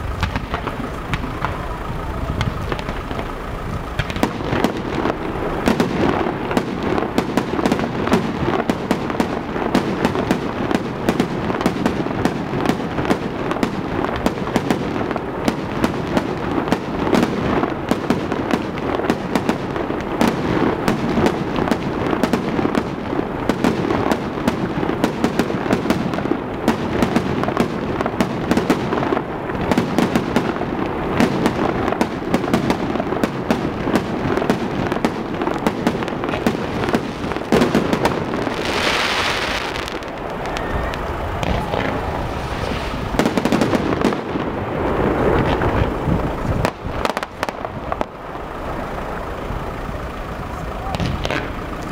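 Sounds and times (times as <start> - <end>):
fireworks bangs and pops: 0.0 - 48.5, 50.8 - 51.9.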